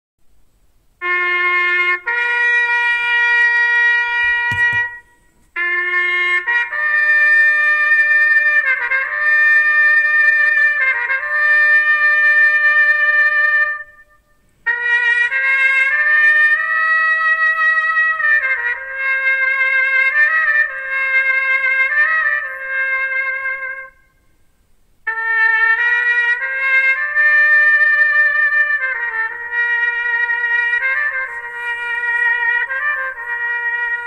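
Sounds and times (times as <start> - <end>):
solo trumpet playing long notes: 1.0 - 34.0.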